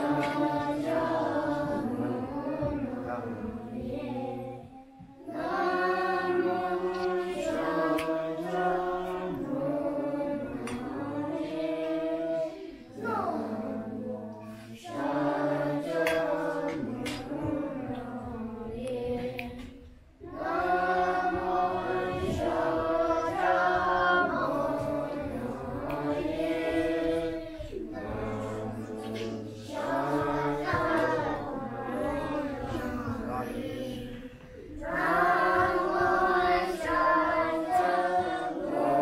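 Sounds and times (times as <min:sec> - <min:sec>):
group singing devotional chant: 0:00.0 - 0:39.0.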